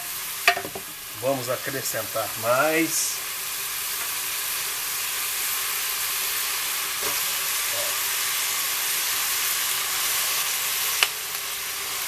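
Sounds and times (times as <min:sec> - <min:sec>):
meat sizzling in lard: 0:00.0 - 0:12.0.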